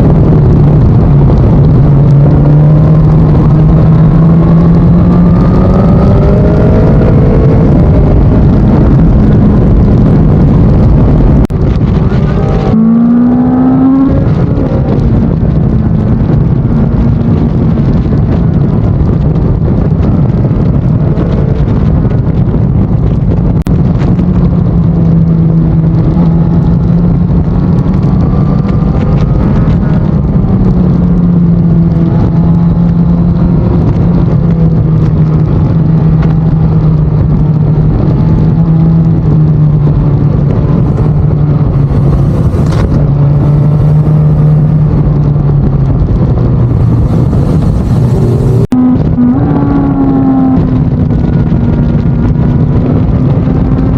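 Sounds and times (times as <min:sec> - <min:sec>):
motorcycle engine cruising: 0:00.0 - 0:53.9
wind rush: 0:00.0 - 0:53.9.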